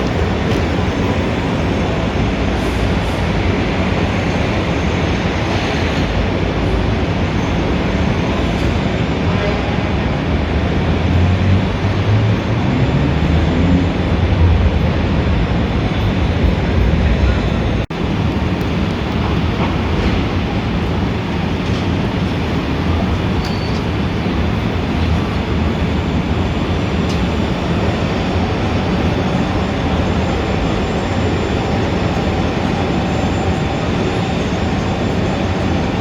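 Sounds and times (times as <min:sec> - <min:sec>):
city street traffic rumble: 0:00.0 - 0:36.0.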